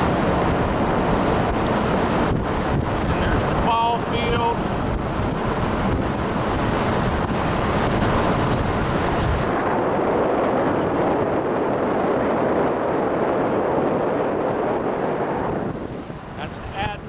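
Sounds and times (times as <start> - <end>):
vehicle road rumble: 0.0 - 17.0
wind noise on microphone: 0.0 - 17.0.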